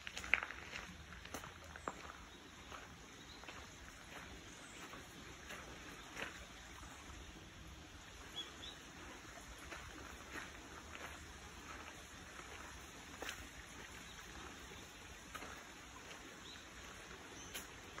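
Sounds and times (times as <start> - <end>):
footsteps on gravel and leaves: 0.0 - 7.0, 9.3 - 18.0.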